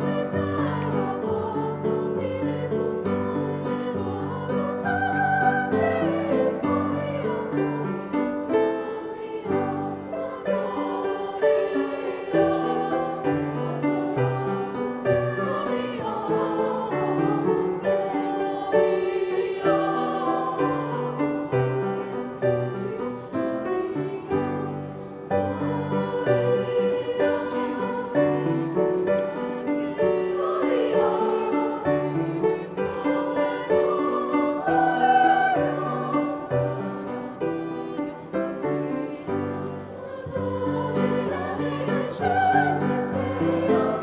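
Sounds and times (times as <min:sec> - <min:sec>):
choir singing: 0:00.0 - 0:44.0
piano accompaniment: 0:00.0 - 0:44.0.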